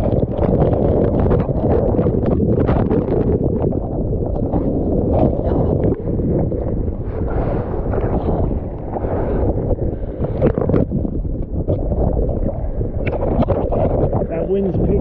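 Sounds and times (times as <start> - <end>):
water sloshing and splashing: 0.0 - 15.0
wind buffeting microphone: 0.0 - 15.0.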